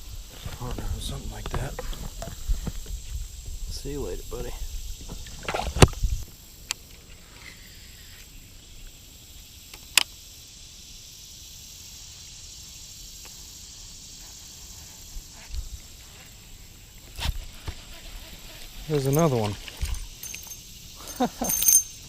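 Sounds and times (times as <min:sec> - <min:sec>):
steady high hiss: 0:00.0 - 0:05.2, 0:06.0 - 0:22.0.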